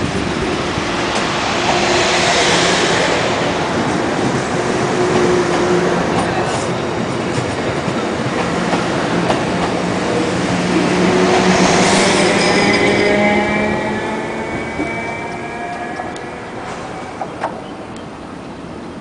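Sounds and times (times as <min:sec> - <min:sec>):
electric train accelerating: 0:00.0 - 0:18.2
high train whine: 0:00.0 - 0:19.0.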